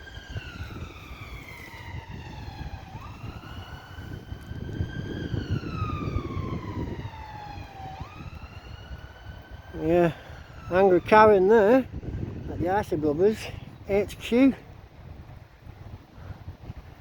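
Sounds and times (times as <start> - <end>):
ambulance siren wailing: 0.0 - 14.6
traffic rumble: 0.0 - 17.0.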